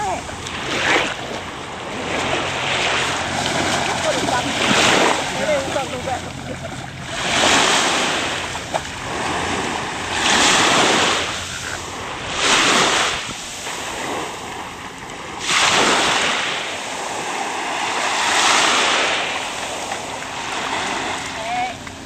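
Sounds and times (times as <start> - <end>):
small waves washing on beach: 0.0 - 22.0.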